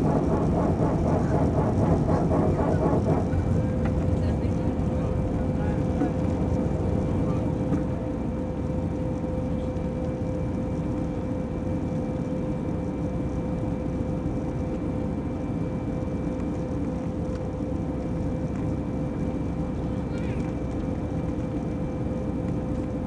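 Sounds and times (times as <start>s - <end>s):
airplane cabin engine rumble: 0.0s - 23.0s.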